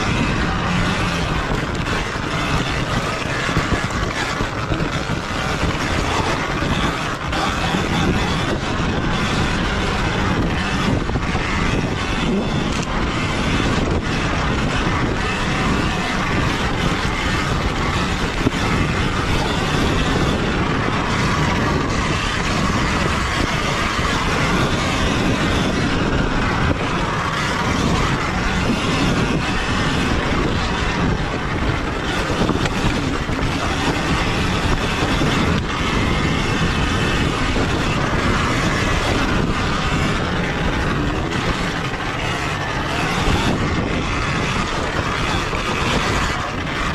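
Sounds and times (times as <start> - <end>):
chassis rattling: 0.0 - 46.9
tyre noise on dirt: 0.0 - 46.9
wind rush on camera: 0.0 - 46.9.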